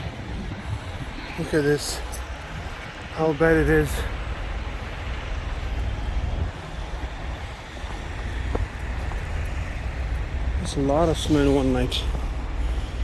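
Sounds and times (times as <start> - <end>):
diesel truck engine rumbling: 0.0 - 13.0
outdoor noise hiss: 0.0 - 13.0.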